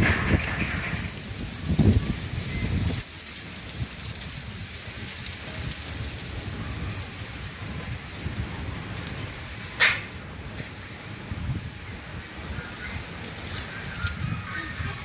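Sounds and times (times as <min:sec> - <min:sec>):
gusts buffeting microphone: 0:00.0 - 0:15.0
wind hissing: 0:00.0 - 0:15.0.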